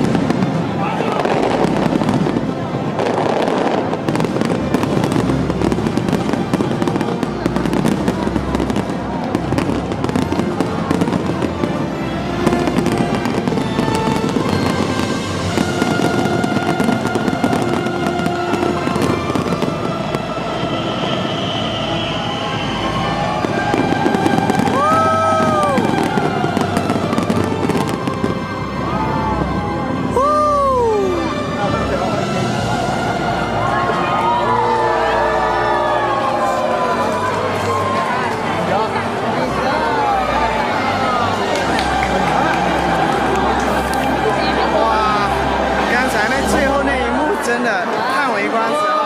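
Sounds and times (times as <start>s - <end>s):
fireworks bangs and crackling: 0.0s - 49.0s
music playing: 0.0s - 49.0s.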